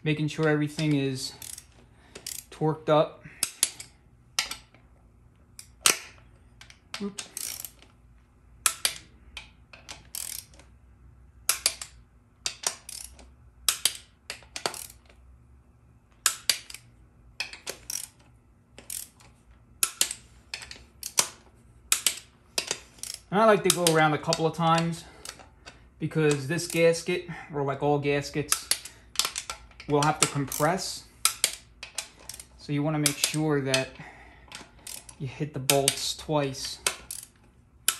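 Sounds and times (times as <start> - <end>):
torque wrench clicking: 0.4 - 2.6, 3.4 - 4.8, 5.6 - 7.9, 8.6 - 10.7, 11.4 - 15.2, 16.2 - 27.0, 28.5 - 37.9.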